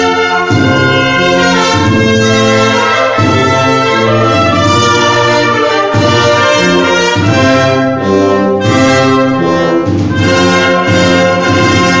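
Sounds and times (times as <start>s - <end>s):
brass ensemble playing chords: 0.0s - 12.0s.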